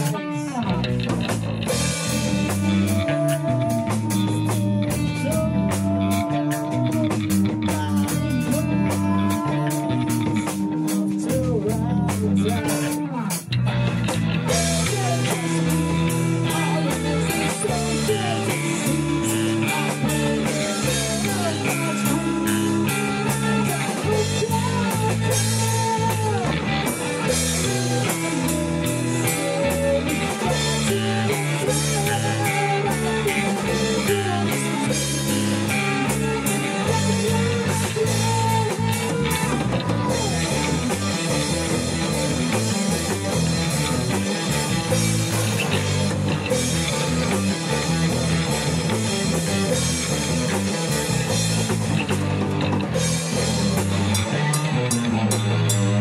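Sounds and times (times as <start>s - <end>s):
electric bass line: 0.0s - 56.0s
electric guitars: 0.0s - 56.0s
rock band playing: 0.0s - 56.0s.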